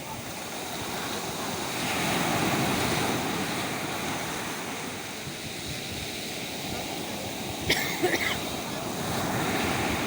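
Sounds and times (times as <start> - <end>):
sea waves breaking on shore: 0.0 - 10.0.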